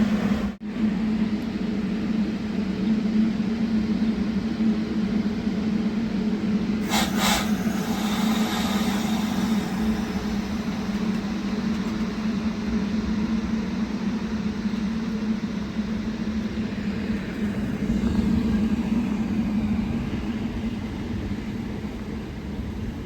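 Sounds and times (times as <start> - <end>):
train low hum: 0.0 - 23.0.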